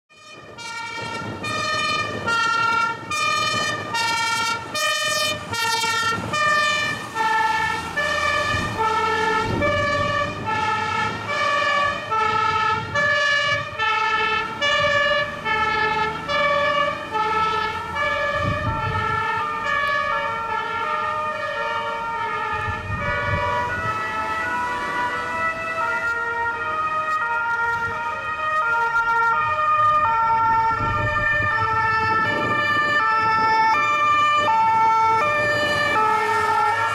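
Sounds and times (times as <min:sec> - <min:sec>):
two-tone emergency sirens: 0:00.1 - 0:36.9
vehicle engine rumble: 0:00.4 - 0:36.9.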